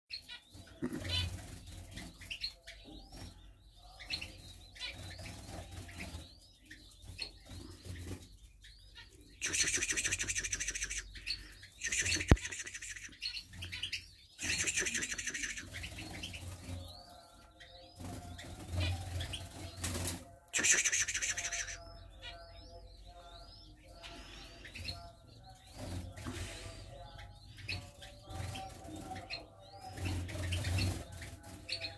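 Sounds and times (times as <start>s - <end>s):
chicks peeping: 0.1s - 31.9s.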